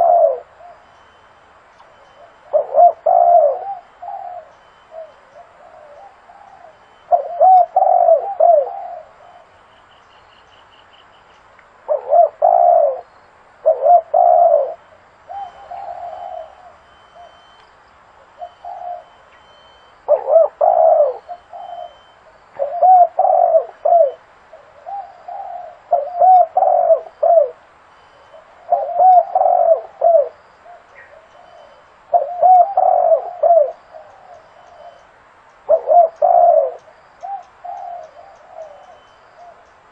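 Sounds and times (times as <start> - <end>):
dove cooing: 0.0 - 1.3, 1.9 - 9.6, 11.8 - 17.6, 18.2 - 39.8.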